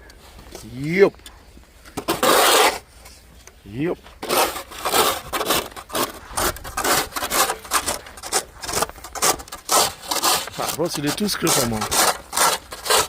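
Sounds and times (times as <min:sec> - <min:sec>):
snow crunching and scraping: 0:02.0 - 0:13.0.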